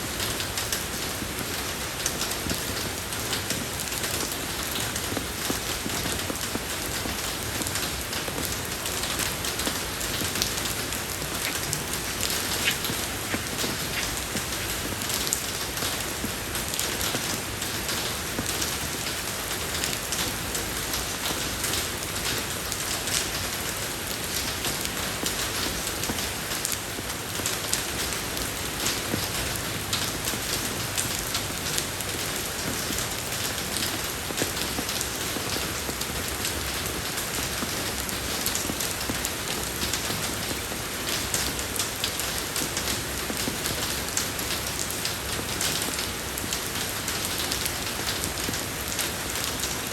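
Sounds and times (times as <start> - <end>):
rain falling on a road: 0.0 - 49.9.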